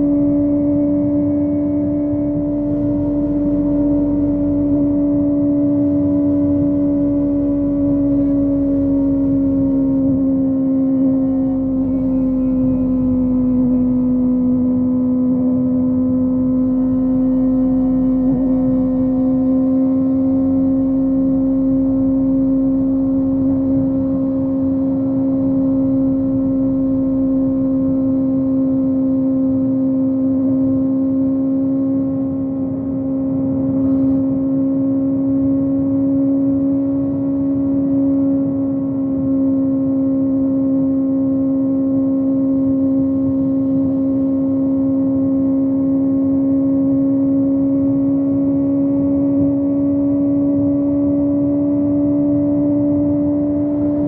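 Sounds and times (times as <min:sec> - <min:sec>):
motorcycle engine high-revving: 0:00.0 - 0:54.0
wind and road rumble: 0:00.0 - 0:54.0.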